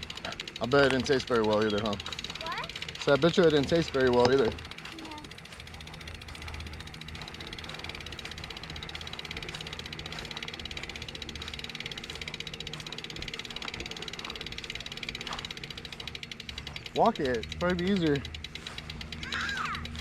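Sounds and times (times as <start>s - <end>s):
bicycle freewheel clicking: 0.0s - 20.0s.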